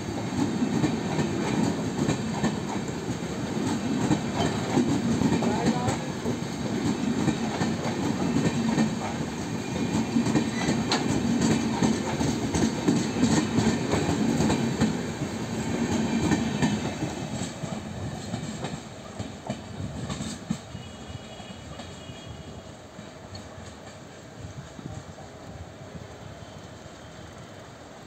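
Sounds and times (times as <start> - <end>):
train coaches rumbling past: 0.0 - 28.0.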